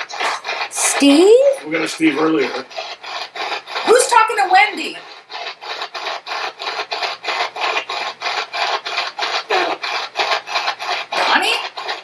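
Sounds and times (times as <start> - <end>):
choppy radio static: 0.0 - 12.0.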